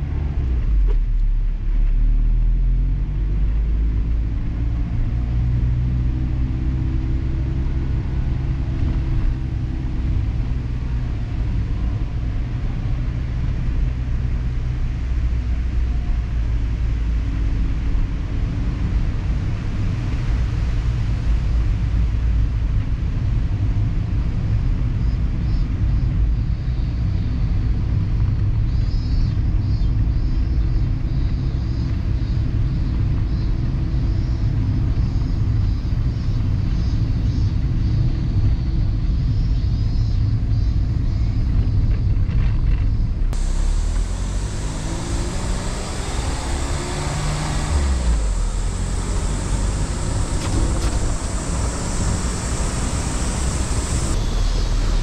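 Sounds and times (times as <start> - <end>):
car engine: 0.0 - 23.7, 27.8 - 55.0
road noise: 0.0 - 55.0.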